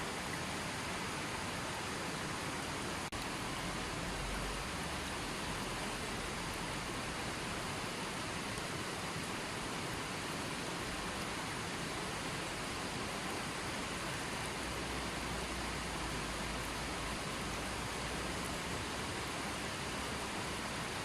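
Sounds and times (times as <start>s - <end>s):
running water flowing: 0.0s - 21.0s.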